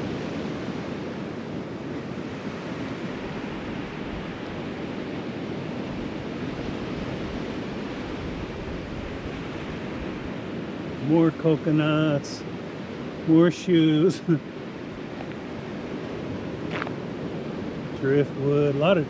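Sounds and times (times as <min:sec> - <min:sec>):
wind buffeting microphone: 0:00.0 - 0:11.1, 0:12.6 - 0:18.8
ocean surf washing on beach: 0:00.0 - 0:19.0.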